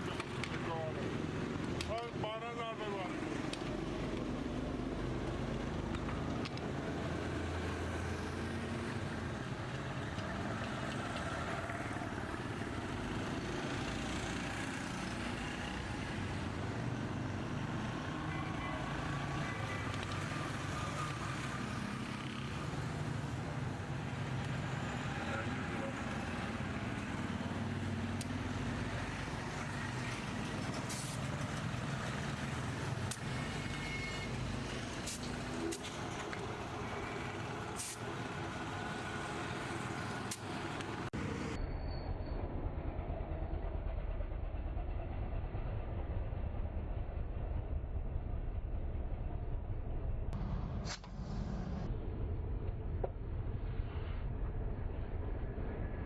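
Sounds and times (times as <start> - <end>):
road traffic engines: 0.0 - 56.0.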